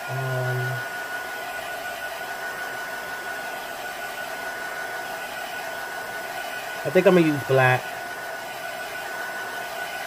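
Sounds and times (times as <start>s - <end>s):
fan blowing hiss: 0.0s - 10.0s.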